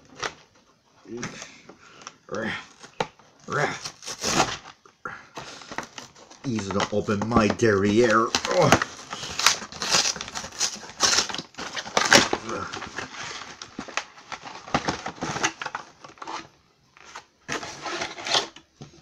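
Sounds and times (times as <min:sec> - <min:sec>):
plastic wrapping crinkling and tearing: 0:02.7 - 0:04.8, 0:05.4 - 0:18.6.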